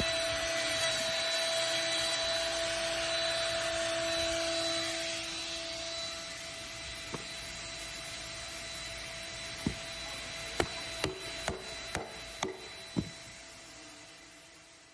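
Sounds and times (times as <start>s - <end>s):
machine humming and hissing: 0.0s - 14.9s.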